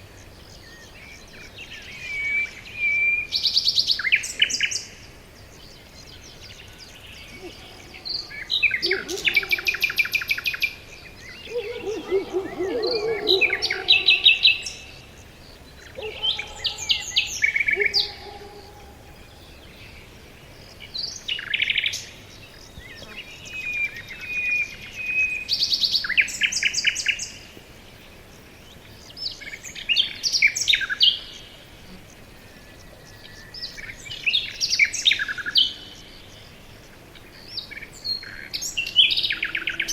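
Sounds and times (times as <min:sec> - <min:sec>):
songbirds trilling: 0:00.0 - 0:39.9.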